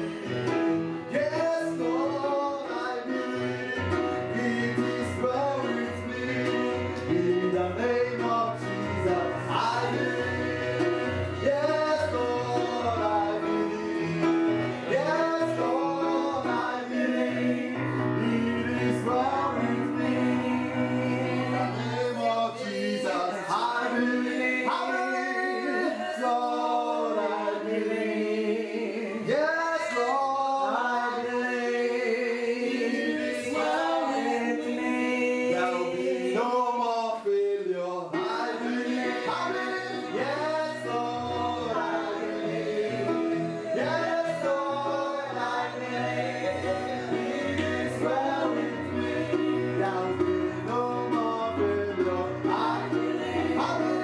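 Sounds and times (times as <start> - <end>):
instrumental accompaniment: 0.0 - 36.6, 38.1 - 54.0
voices singing gospel song: 0.0 - 54.0.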